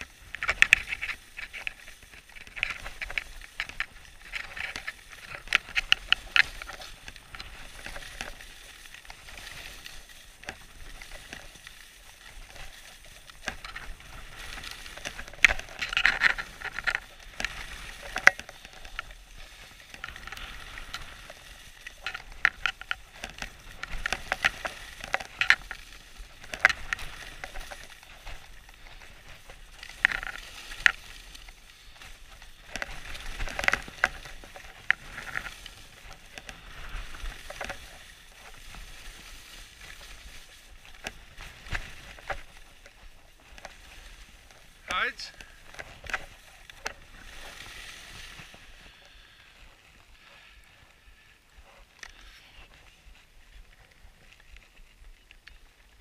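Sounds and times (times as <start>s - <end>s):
ski edges scraping: 0.0s - 56.0s
skis sliding on snow: 0.0s - 56.0s.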